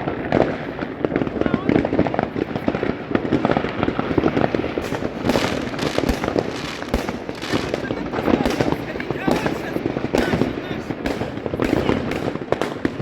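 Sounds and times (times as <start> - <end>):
firecrackers crackling: 0.0 - 13.0
fireworks bangs and pops: 0.0 - 13.0.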